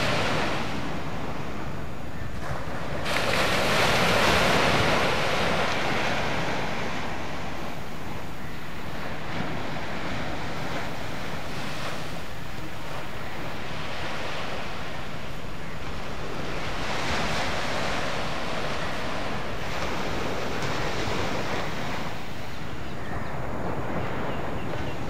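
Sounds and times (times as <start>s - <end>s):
surf washing onto beach: 0.0s - 25.0s
wind buffeting microphone: 0.0s - 25.0s.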